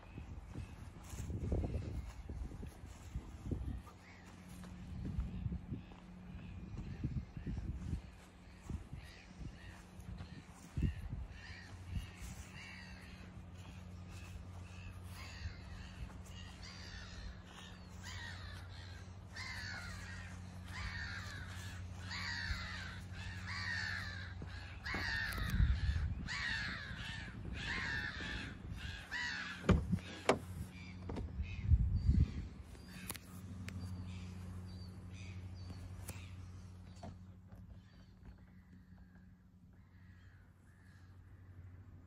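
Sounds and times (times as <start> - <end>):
steady low hum: 0.0 - 42.0
bird harsh falling calls: 5.8 - 41.2.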